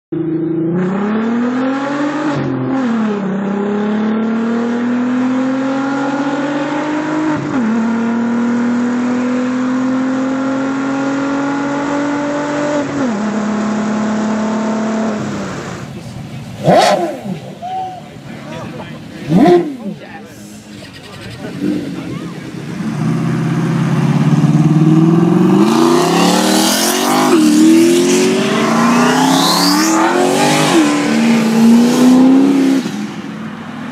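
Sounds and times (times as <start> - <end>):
car engine accelerating: 0.1 - 33.9
sports car engine revving: 0.2 - 17.6, 18.2 - 33.9.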